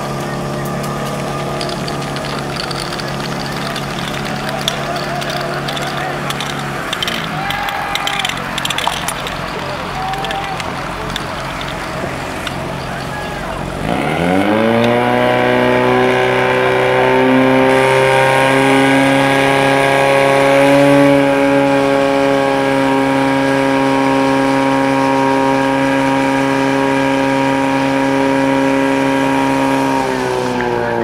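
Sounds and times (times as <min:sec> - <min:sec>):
pump engine high-revving drone: 0:00.0 - 0:31.0.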